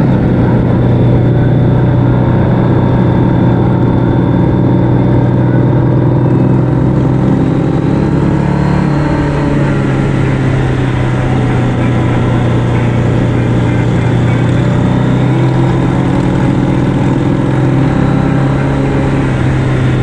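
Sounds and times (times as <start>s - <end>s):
noisy rush: 0.0s - 20.0s
vehicle engine droning: 0.0s - 20.0s.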